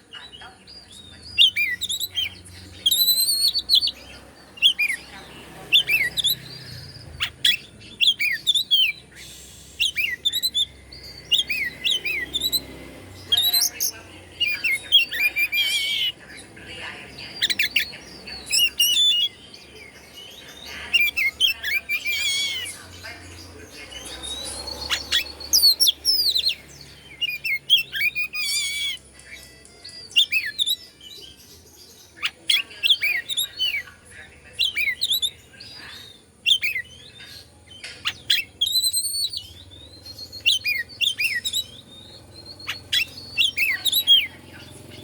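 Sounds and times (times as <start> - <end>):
bird singing whistled notes: 0.7 - 5.1, 5.7 - 16.2, 17.3 - 20.0, 23.4 - 29.1, 29.8 - 33.9, 34.5 - 45.0.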